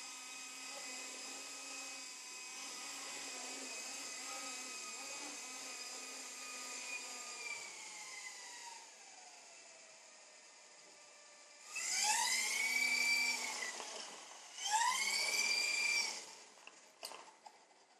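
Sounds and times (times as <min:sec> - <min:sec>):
electric motors whining: 0:00.0 - 0:17.7.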